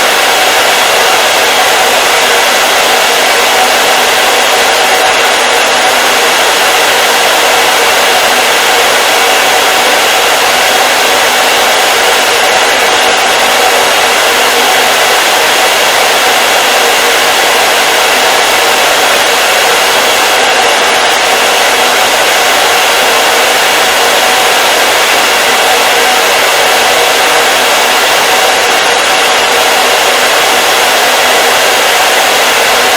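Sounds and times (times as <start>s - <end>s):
hair dryer running: 0.0s - 32.9s.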